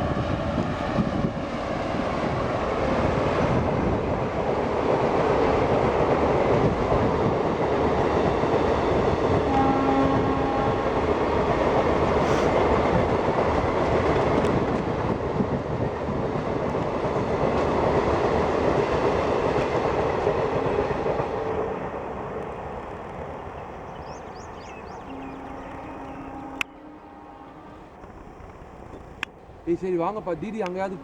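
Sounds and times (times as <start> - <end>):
express train passing at high speed: 0.0 - 31.0.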